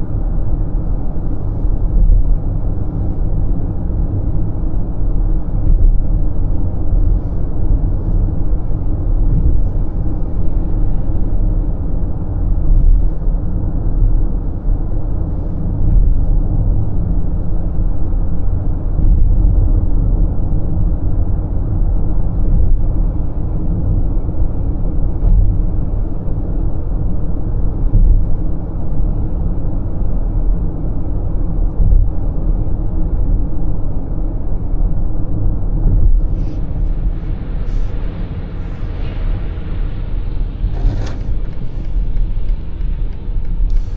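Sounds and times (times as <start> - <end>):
car cruising on highway: 0.0 - 43.9.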